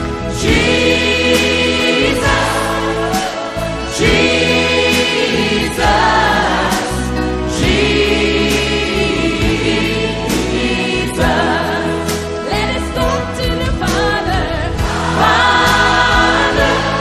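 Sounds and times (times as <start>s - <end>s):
instrumental backing: 0.0s - 17.0s
choir singing long notes: 0.1s - 12.4s, 14.8s - 17.0s.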